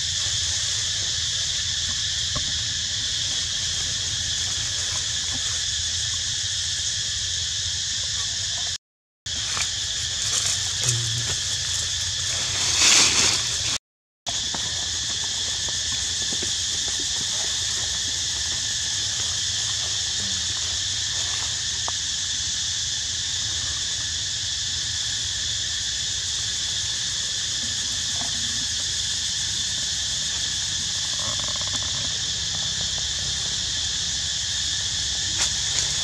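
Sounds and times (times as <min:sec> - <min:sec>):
insects buzzing: 0:00.0 - 0:36.0.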